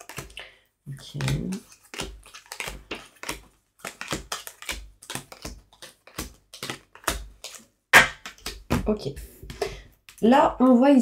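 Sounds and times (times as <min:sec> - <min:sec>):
cards tapping on tabletop: 0:01.2 - 0:10.2.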